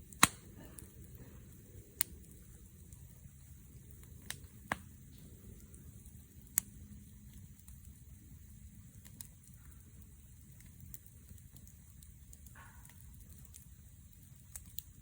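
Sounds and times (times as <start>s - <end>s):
low background noise: 0.0s - 15.0s
wood fire crackling: 0.0s - 15.0s.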